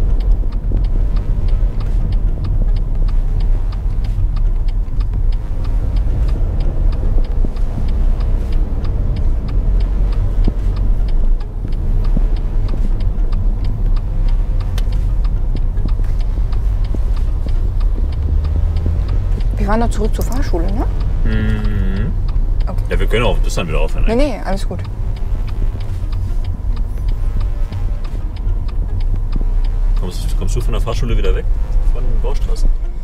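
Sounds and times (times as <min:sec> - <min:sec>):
car driving rumble: 0:00.0 - 0:33.0
turn signal ticking: 0:00.0 - 0:33.0.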